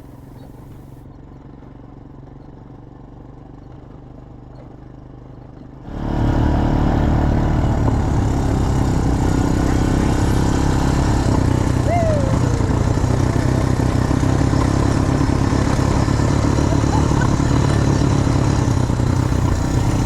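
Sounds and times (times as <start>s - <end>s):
atv engine idling: 0.0s - 5.8s, 7.7s - 20.0s
loud atv engine running: 0.0s - 20.0s.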